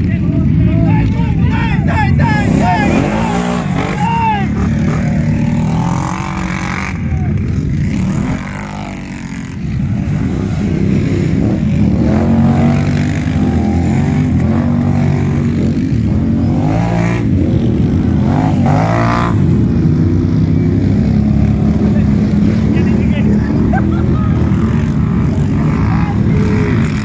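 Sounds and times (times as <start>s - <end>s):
quad engines revving: 0.0s - 27.0s.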